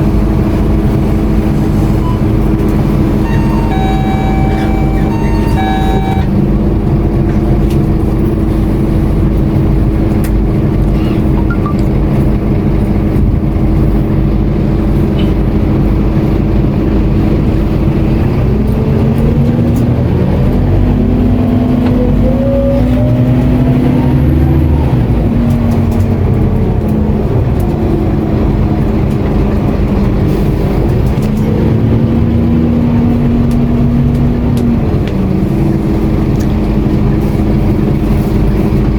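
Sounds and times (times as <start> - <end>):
bus engine: 0.0 - 38.9.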